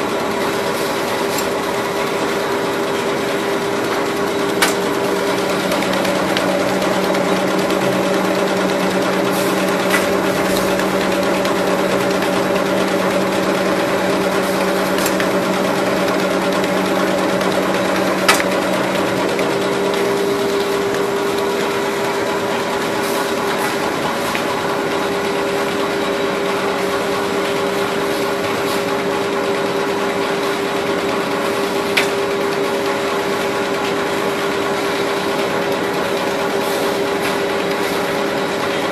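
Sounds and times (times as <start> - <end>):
paper cutting machine humming: 0.0 - 38.9.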